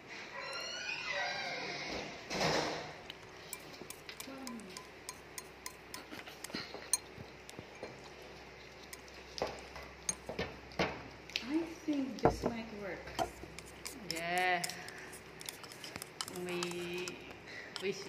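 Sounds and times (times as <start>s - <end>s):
rat chewing food: 3.0s - 18.0s.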